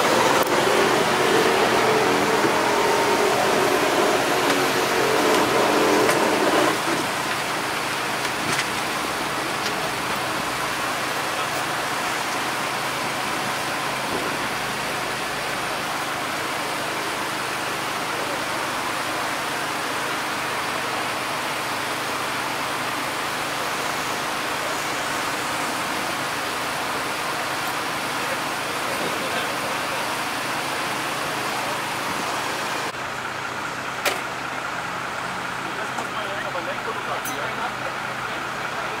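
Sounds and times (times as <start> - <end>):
loud engine drone: 0.0 - 39.0
motorway traffic noise: 0.0 - 39.0
vehicle engine hum: 0.0 - 39.0.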